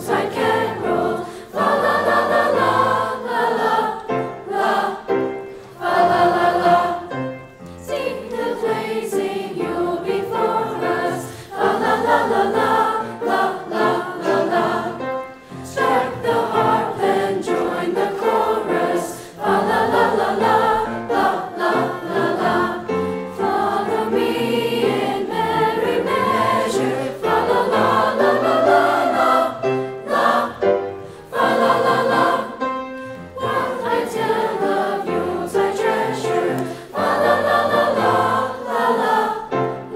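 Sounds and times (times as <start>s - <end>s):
chorus singing: 0.0s - 39.9s.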